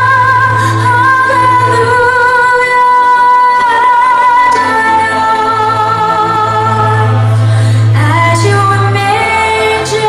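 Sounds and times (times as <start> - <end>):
woman singing a hymn: 0.0 - 7.2, 7.9 - 10.0.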